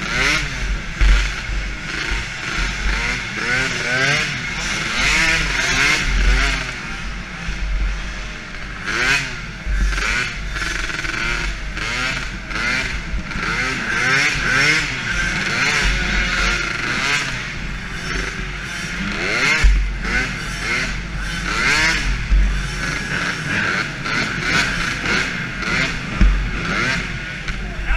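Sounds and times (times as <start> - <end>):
quad engine revving: 0.0 - 27.9.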